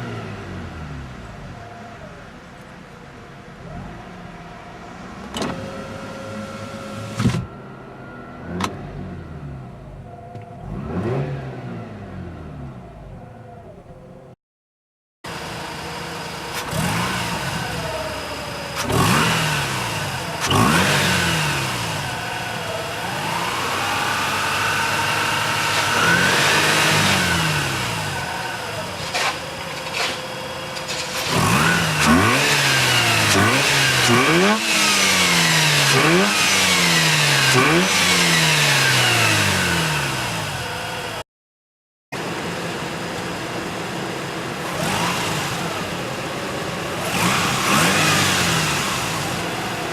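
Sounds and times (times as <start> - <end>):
rotary engine revving: 0.0 - 13.6, 15.3 - 41.2, 42.2 - 49.9.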